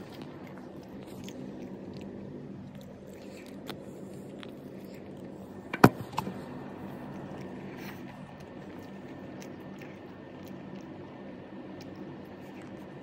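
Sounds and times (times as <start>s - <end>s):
person chewing: 0.0s - 13.0s
steady low hum: 0.0s - 13.0s.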